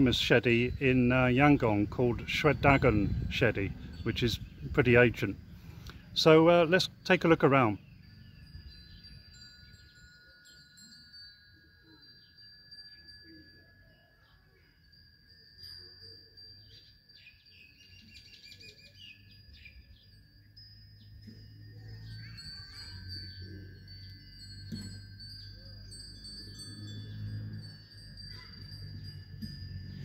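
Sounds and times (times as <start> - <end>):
small bells tinkling: 0.0 - 30.0.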